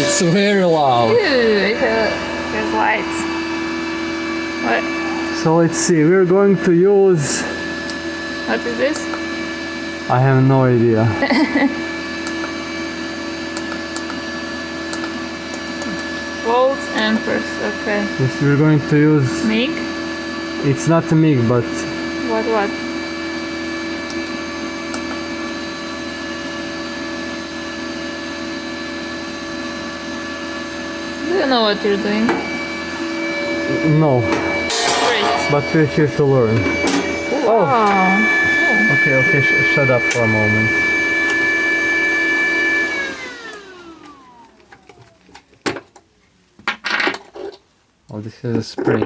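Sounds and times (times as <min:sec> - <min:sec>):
welder cooling fan whirring: 0:00.0 - 0:45.8.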